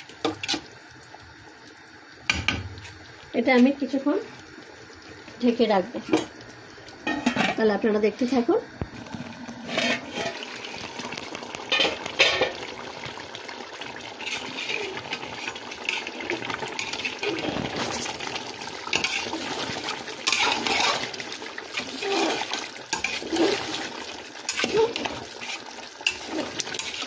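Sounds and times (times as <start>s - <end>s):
curry bubbling in a pot: 0.0s - 27.0s.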